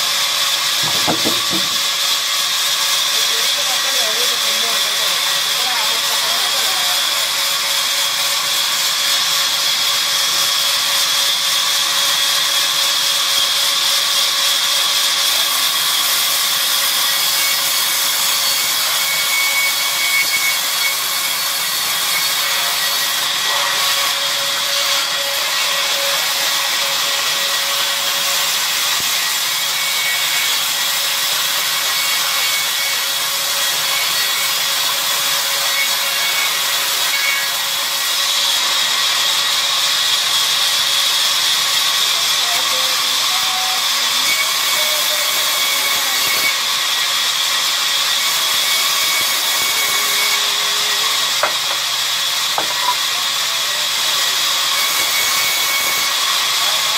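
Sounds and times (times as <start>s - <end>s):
band saw blade whine: 0.0s - 56.9s
saw rasping through log: 0.0s - 56.9s.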